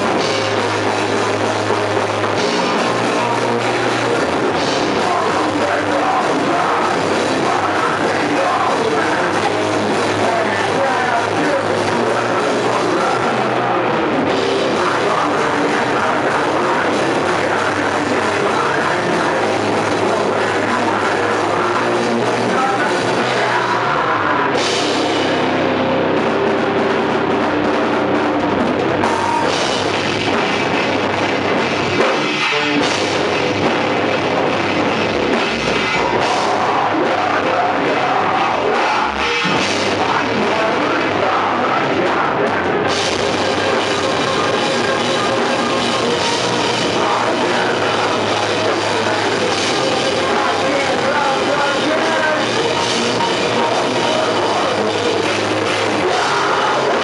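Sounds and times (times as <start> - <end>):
distorted electric guitars: 0.0 - 57.0
heavy rock band playing: 0.0 - 57.0
pounding drum kit: 0.0 - 57.0.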